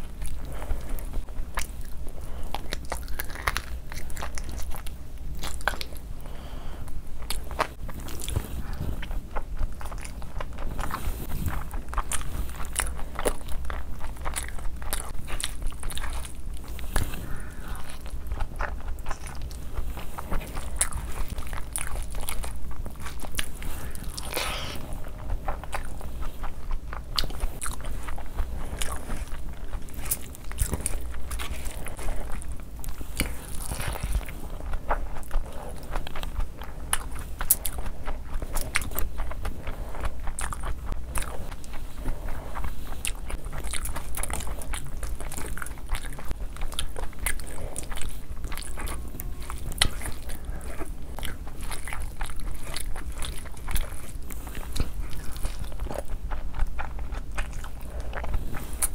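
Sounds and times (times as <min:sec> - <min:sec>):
person chewing and smacking: 0:00.0 - 0:58.9.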